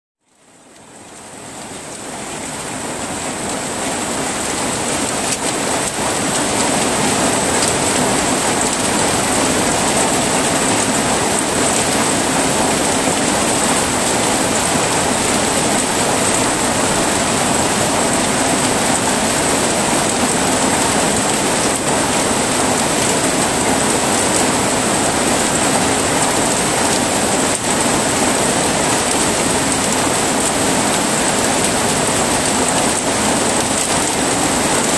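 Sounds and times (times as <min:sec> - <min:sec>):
heavy rain downpour: 0:00.2 - 0:34.9.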